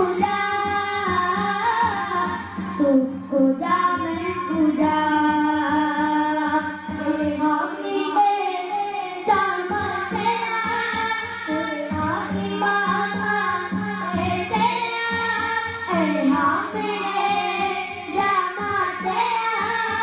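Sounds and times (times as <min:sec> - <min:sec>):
children singing into microphones: 0:00.0 - 0:20.0.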